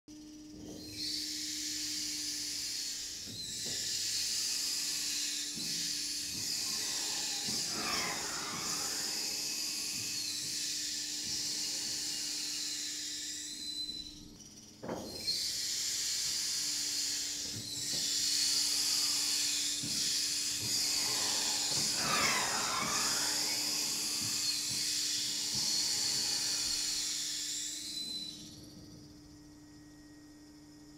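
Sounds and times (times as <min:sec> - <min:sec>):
whining actuator tones: 0:00.1 - 0:30.9
motion platform mechanical hiss: 0:01.2 - 0:13.9, 0:15.2 - 0:27.9.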